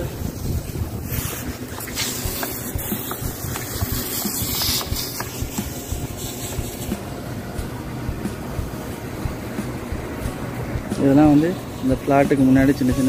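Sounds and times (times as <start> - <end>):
wind rumbling on microphone: 0.0 - 10.9
hose spraying water: 0.0 - 13.0.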